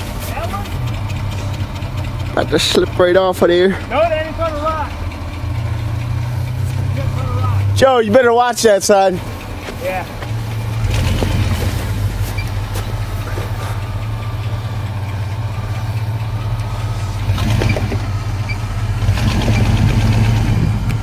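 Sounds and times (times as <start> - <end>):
truck engine running at low revs: 0.0 - 21.0.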